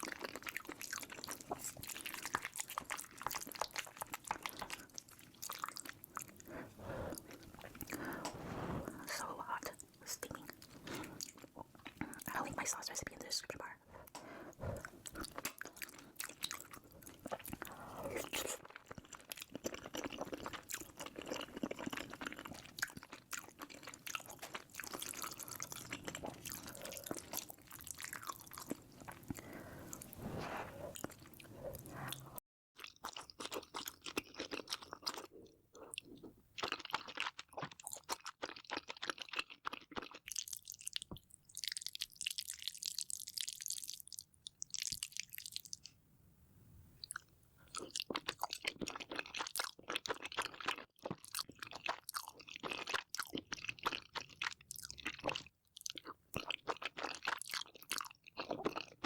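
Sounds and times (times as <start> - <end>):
chewing and crunching food: 0.0 - 46.0, 47.0 - 59.0.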